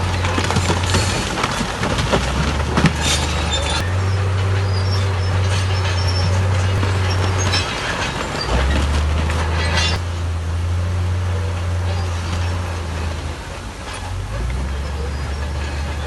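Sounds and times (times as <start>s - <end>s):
metallic squeaks and clanks: 0.0s - 10.2s, 11.2s - 16.0s
heavy diesel engine under load: 0.0s - 16.0s.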